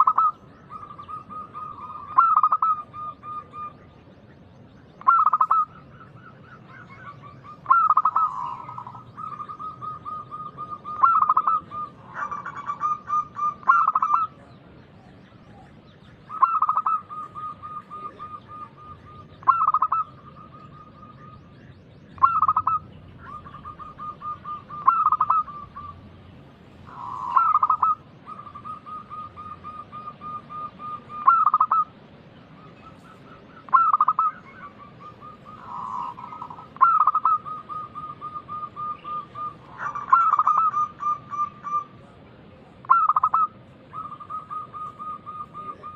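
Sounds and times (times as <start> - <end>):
dove cooing: 0.0 - 3.8, 5.0 - 21.4, 22.2 - 32.0, 32.6 - 45.9.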